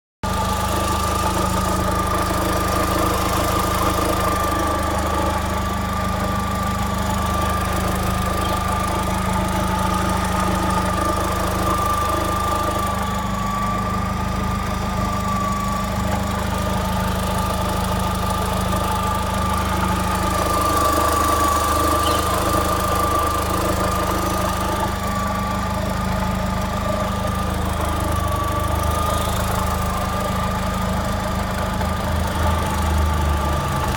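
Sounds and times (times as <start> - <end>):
car engine running: 0.2 - 33.9
steady engine whine: 0.3 - 33.9.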